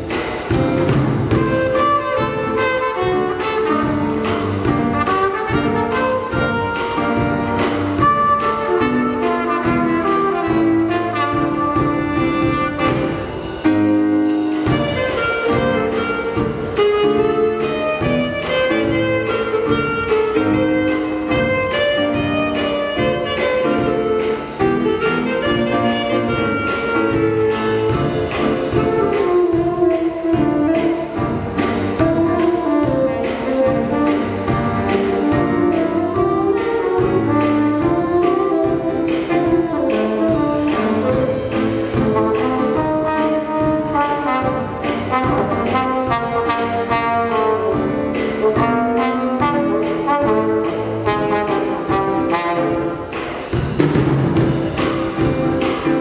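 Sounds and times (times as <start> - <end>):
jazz band playing: 0.0 - 56.0.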